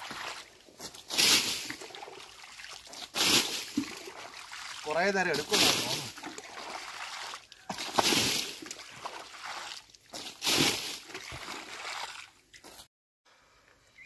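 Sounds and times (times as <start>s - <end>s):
water sloshing in bucket: 0.0s - 12.9s
water splashes: 0.0s - 12.9s.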